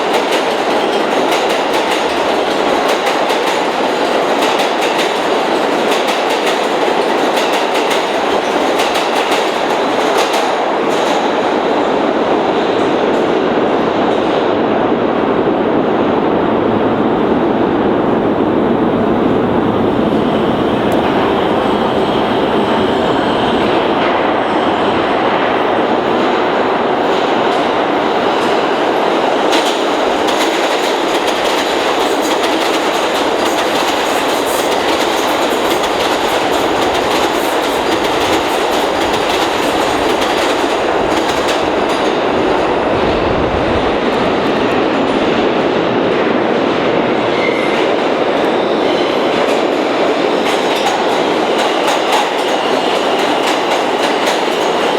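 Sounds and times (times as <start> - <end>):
subway train wheel and track noise: 0.0 - 54.9.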